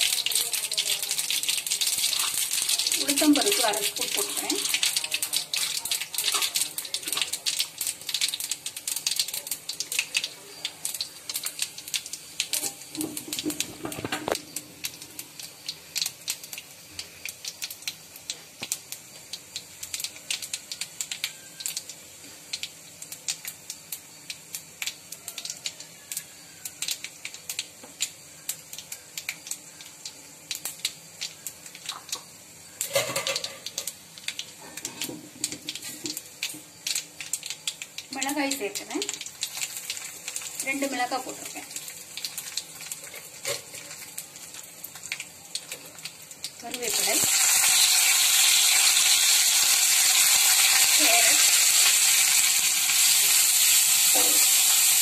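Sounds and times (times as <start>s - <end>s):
seeds sizzling and popping in oil: 0.0s - 55.0s.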